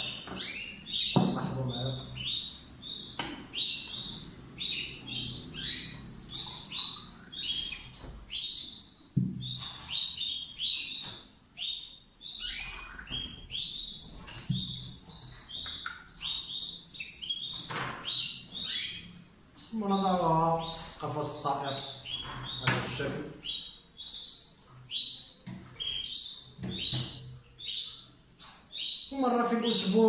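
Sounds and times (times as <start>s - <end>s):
finches chirping and twittering: 0.0s - 30.0s.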